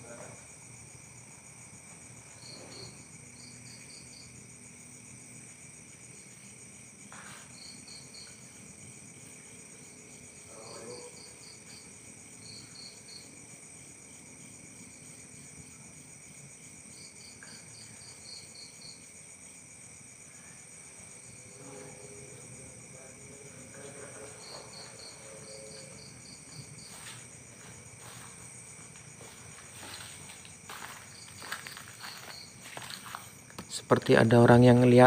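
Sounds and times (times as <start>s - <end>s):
cricket chirping: 0.0s - 35.0s
insects trilling: 0.0s - 35.0s.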